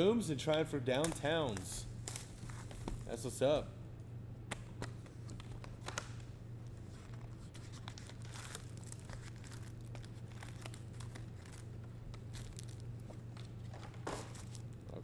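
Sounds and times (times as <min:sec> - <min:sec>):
steady low hum: 0:00.0 - 0:15.0
cards being handled: 0:00.4 - 0:03.3, 0:04.5 - 0:15.0
foil wrappers crinkling and tearing: 0:00.5 - 0:03.3, 0:04.6 - 0:15.0.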